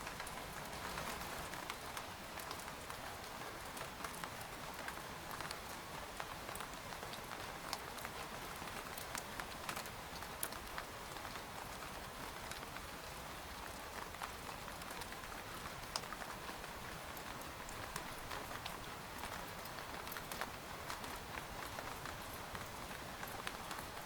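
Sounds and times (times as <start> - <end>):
rain on a tent: 0.0 - 24.0.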